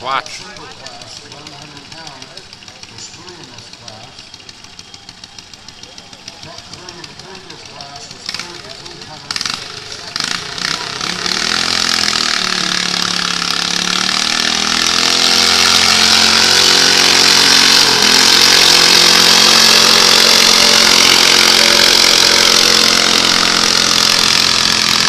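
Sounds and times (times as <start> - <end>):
tractor engine running hard: 0.0 - 25.0.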